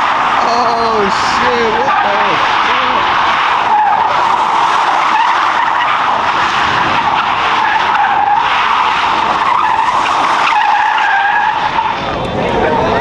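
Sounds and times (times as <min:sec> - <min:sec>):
car tyres screeching: 0:00.0 - 0:13.0.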